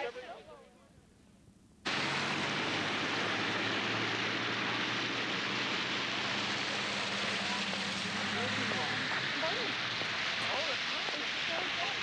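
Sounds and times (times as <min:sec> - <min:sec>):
steady hiss: 0:01.0 - 0:12.0.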